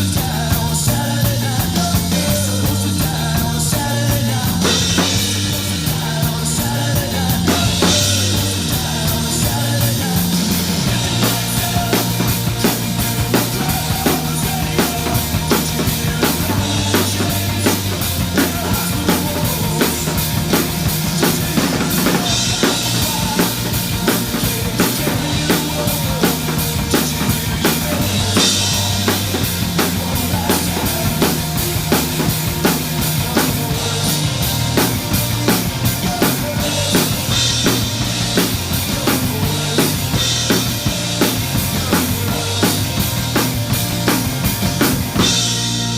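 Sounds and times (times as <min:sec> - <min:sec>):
fast drum beat: 0:00.0 - 0:45.9
punk rock bass and guitars: 0:00.0 - 0:45.9.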